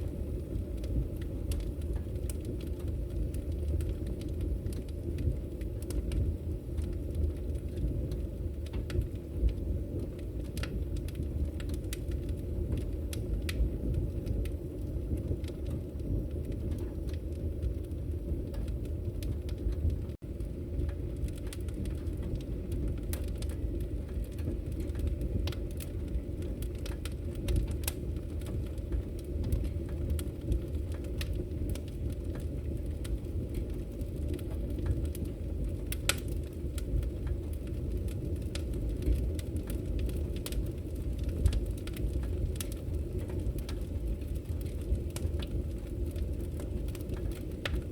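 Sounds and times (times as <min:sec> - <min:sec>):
firewood crackles and pops: 0:00.0 - 0:47.9
low rumble of flames: 0:00.0 - 0:47.9.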